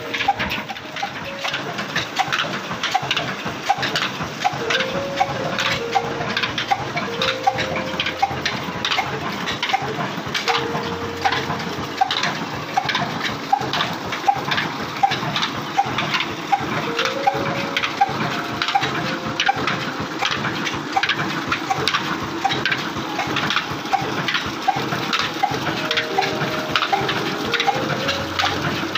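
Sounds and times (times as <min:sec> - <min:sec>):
engine regular beat: 0:00.0 - 0:28.9.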